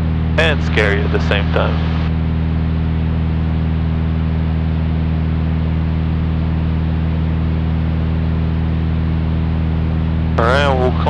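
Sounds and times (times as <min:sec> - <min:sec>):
plane propeller engine droning: 0:00.0 - 0:11.0.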